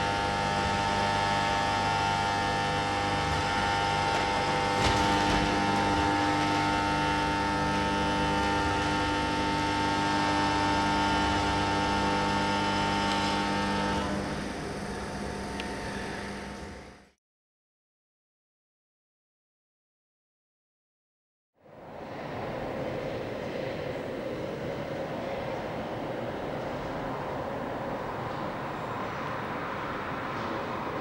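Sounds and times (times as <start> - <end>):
machine-like hum: 0.0 - 17.2, 21.6 - 31.0.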